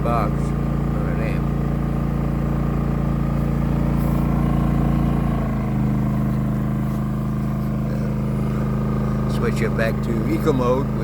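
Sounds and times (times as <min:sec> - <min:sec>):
generator engine running: 0:00.0 - 0:11.0.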